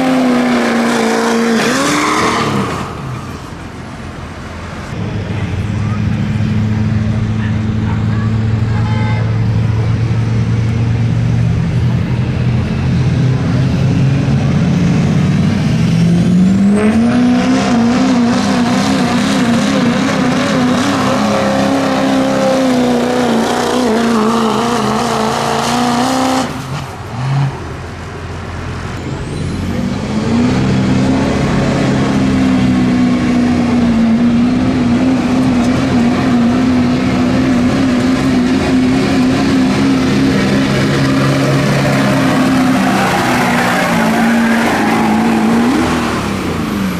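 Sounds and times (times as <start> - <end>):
truck engine revving under load: 0.0 - 46.9.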